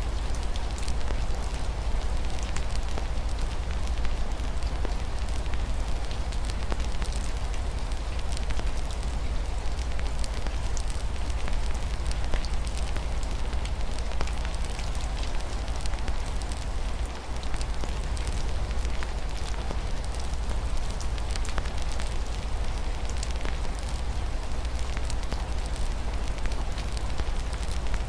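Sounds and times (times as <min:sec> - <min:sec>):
wood fire crackling: 0:00.1 - 0:28.0.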